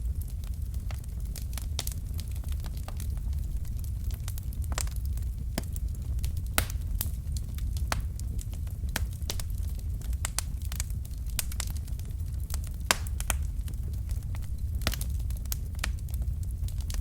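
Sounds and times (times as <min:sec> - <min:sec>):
logs crackling and popping: 0:00.0 - 0:17.0
low rumble of fire: 0:00.0 - 0:17.0.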